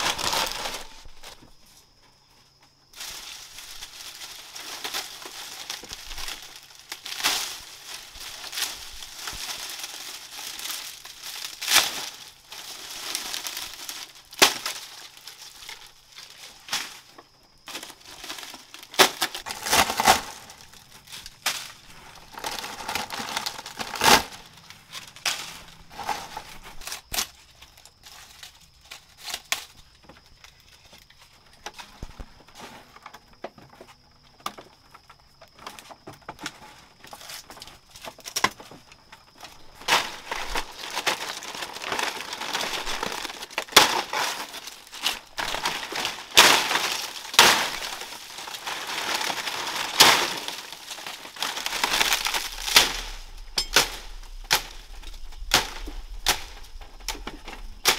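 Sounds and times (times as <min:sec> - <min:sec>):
plant material crunching: 0:00.0 - 0:01.4, 0:03.0 - 0:32.3, 0:36.3 - 0:57.9.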